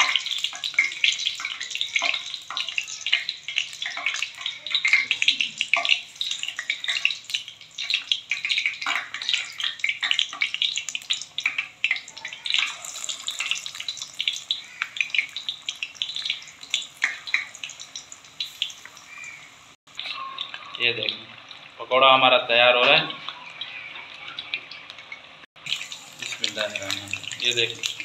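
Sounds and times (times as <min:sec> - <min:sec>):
batter deep-frying in hot oil: 0:00.0 - 0:28.0.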